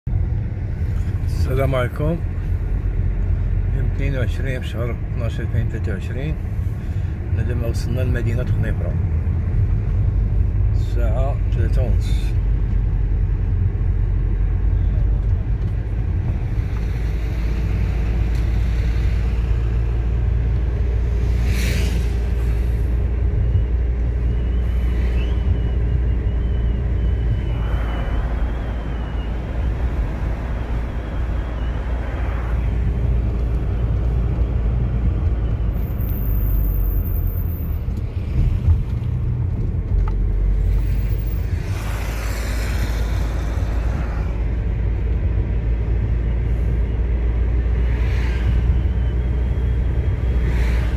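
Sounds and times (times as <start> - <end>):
car engine and tyres rumbling: 0.0 - 50.9.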